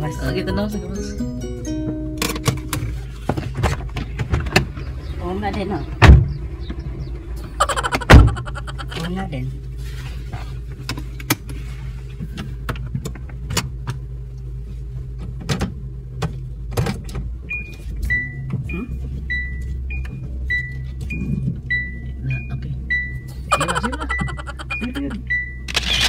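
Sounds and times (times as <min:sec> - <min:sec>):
car engine idling: 0:00.0 - 0:25.5.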